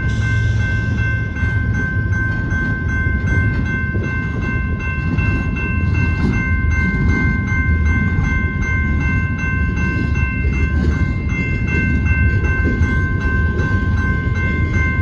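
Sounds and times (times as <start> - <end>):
crossing signal bell ringing: 0.0 - 15.0
freight cars rumbling: 0.0 - 15.0.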